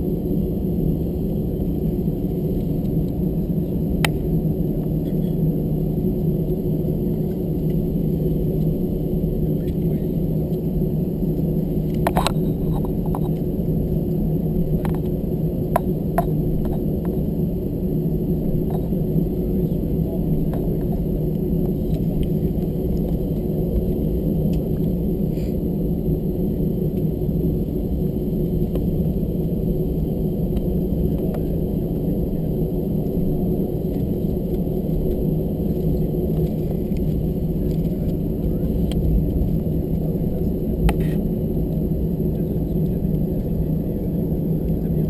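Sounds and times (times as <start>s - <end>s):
jet engines droning: 0.0s - 45.0s.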